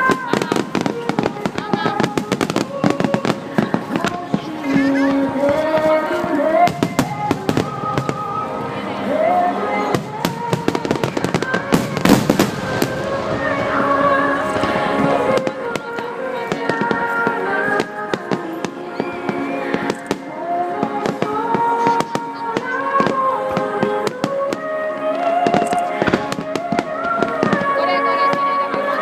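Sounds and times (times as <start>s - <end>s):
fireworks bangs and crackles: 0.0s - 29.0s
song playing: 0.0s - 29.0s.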